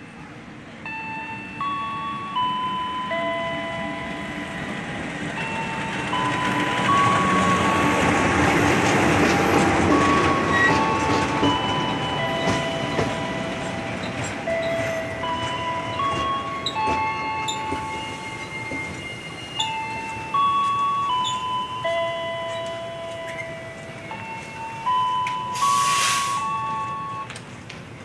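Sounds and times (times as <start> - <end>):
diesel train pulling in: 0.0 - 28.0
chiming melody: 0.8 - 27.3
train wheel clicks: 3.4 - 28.0.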